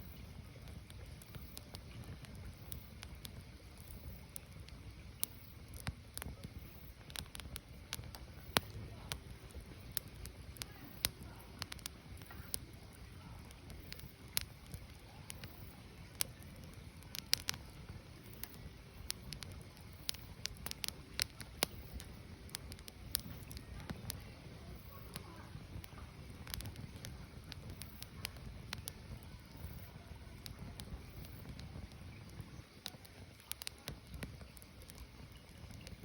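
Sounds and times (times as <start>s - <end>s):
firewood crackling and popping: 0.0s - 36.0s
low fire rumble: 0.0s - 36.0s.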